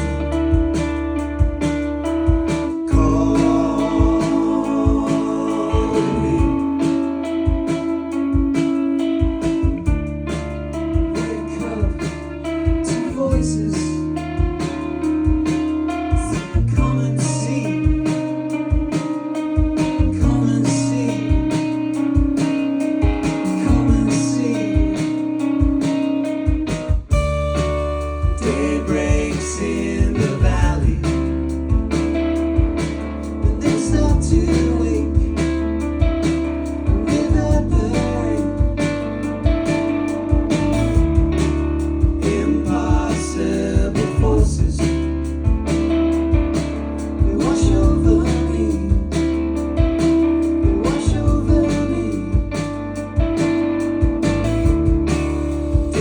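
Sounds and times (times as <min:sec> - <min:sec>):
drum beat: 0:00.0 - 0:13.6, 0:14.3 - 0:17.1, 0:17.8 - 0:20.6, 0:21.3 - 0:24.2, 0:24.8 - 0:56.0
electric bass: 0:00.0 - 0:56.0
electric guitars: 0:00.0 - 0:56.0.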